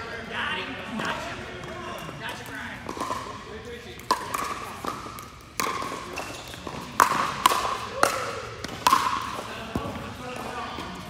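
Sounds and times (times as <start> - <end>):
paddles hitting pickleball: 0.9 - 11.0.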